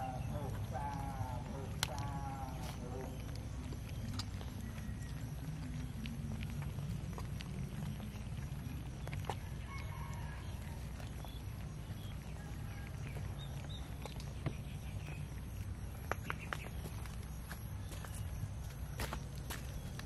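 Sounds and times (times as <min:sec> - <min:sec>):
cats chewing: 0:00.0 - 0:18.2
steady low rumble: 0:00.0 - 0:20.0.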